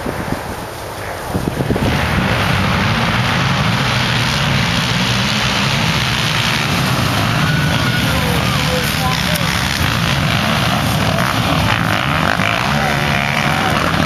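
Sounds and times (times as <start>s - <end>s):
quad bike engines at full throttle: 0.0s - 14.0s.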